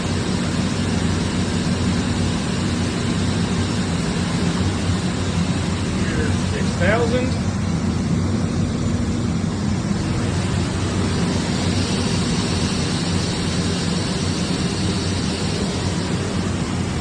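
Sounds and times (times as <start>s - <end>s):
machine spindle hum and whir: 0.0s - 17.0s.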